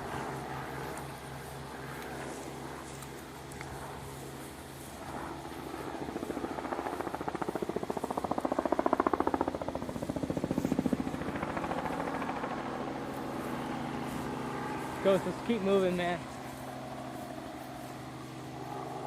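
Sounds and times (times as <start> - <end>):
passing vehicle with pulsing beat: 0.0 - 19.0.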